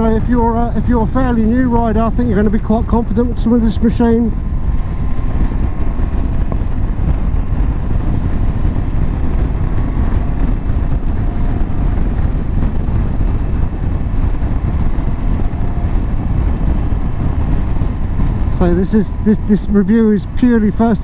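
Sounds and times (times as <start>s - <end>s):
motorcycle engine running: 0.0s - 21.0s
wind rush over microphone: 0.0s - 21.0s.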